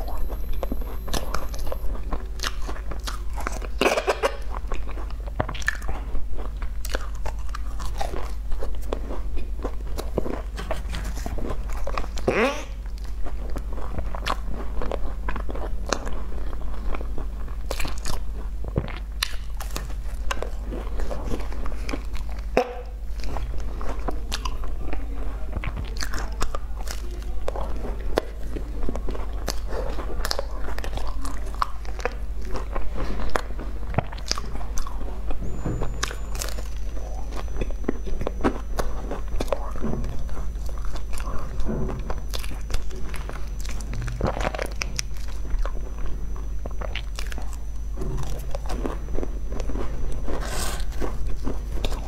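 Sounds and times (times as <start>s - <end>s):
chewing crunchy pastry: 0.0s - 52.0s.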